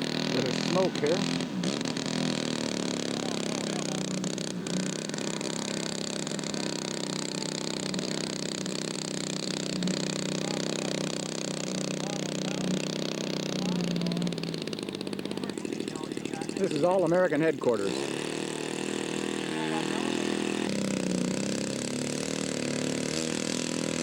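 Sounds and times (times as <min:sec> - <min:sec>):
model aircraft engine running: 0:00.0 - 0:24.0.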